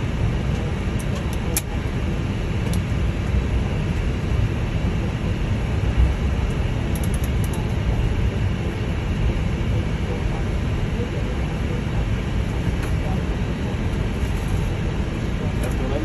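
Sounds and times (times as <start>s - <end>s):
airliner taxiing rumble and hiss: 0.0s - 16.0s.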